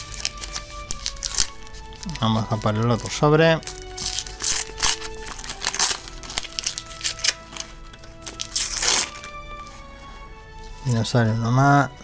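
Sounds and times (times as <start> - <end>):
foil pack tearing and crinkling: 0.0 - 9.7
background music: 0.0 - 12.0.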